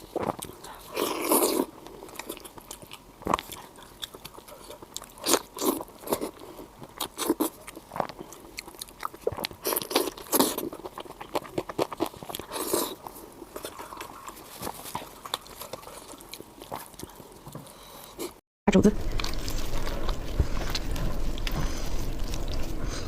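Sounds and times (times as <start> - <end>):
person chewing wetly: 0.0 - 18.4, 19.0 - 23.0.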